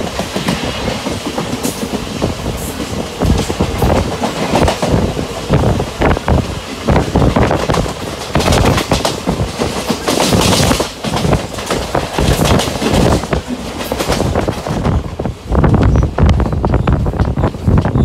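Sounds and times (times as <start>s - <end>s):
train wheels rumbling and clattering: 0.0s - 18.0s.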